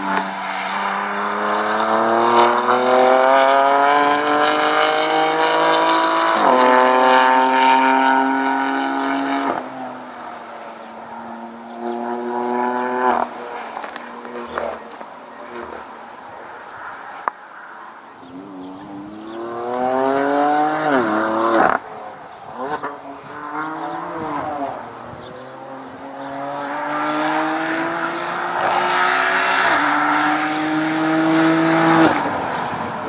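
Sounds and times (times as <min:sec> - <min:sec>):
race car engine accelerating: 0:00.0 - 0:16.2, 0:18.2 - 0:33.0.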